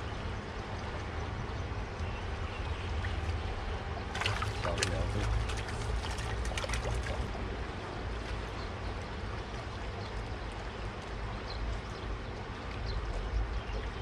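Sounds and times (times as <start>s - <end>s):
light water splashing: 0.0s - 14.0s
river water rushing: 1.4s - 14.0s.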